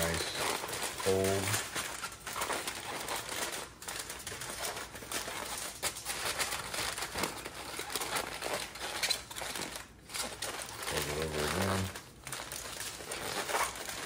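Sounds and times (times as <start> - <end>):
aluminum foil crinkling: 0.0 - 14.0.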